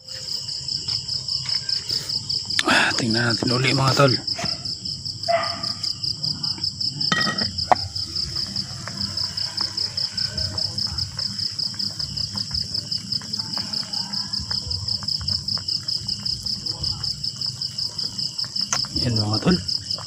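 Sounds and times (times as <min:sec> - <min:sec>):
insect chirping trill: 0:00.0 - 0:20.0.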